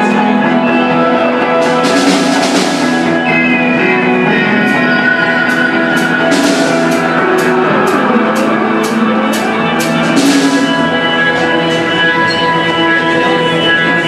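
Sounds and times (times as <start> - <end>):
drums keeping a beat: 0.0 - 14.0
electric and steel guitar chords: 0.0 - 14.0.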